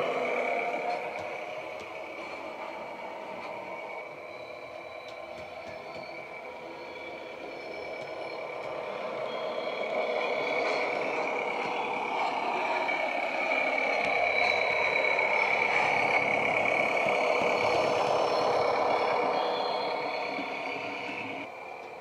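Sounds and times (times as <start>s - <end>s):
diesel railbus engine through small speaker: 0.0s - 22.0s.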